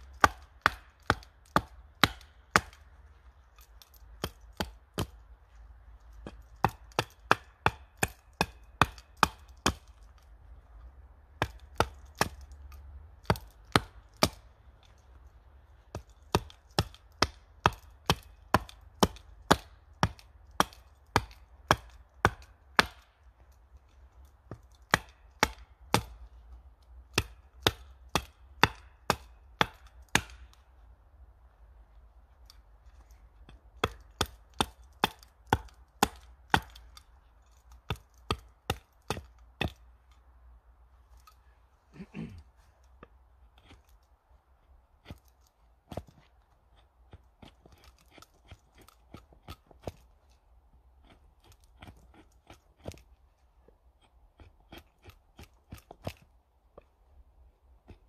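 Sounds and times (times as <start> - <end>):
hatchet chopping wood: 0.0 - 15.0, 15.6 - 30.7, 32.4 - 40.2, 44.9 - 56.9.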